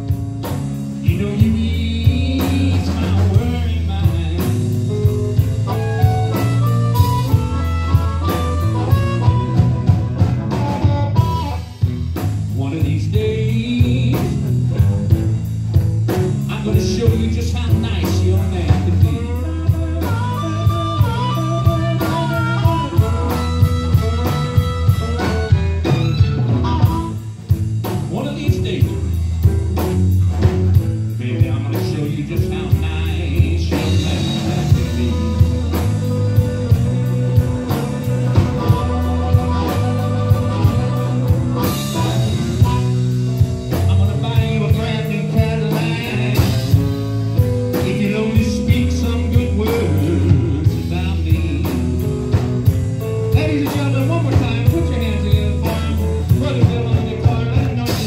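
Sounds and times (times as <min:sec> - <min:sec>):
bass: 0:00.0 - 0:58.0
lead guitar bending melodies: 0:00.0 - 0:58.0
steady drum beat: 0:00.0 - 0:58.0.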